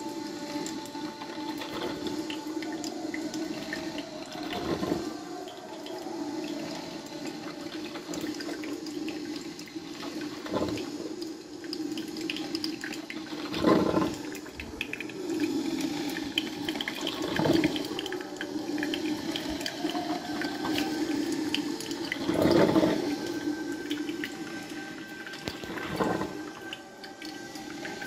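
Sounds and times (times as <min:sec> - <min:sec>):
coffee maker bubbling hiss: 0:00.0 - 0:28.0
coffee maker gurgles: 0:00.0 - 0:28.0.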